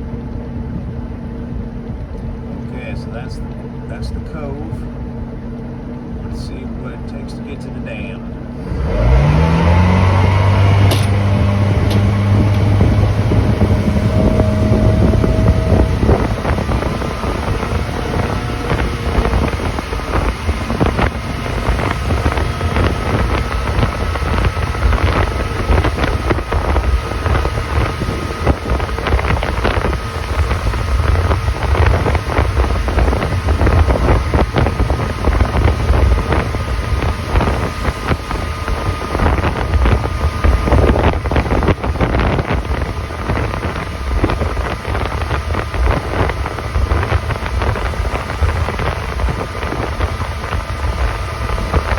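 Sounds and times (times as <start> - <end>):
motorboat engine: 0.0 - 51.9
wind buffeting microphone: 8.6 - 51.9.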